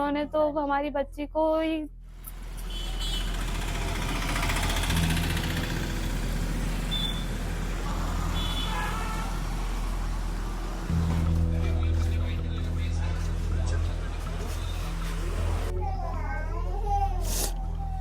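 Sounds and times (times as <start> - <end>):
street traffic: 2.0 - 18.0.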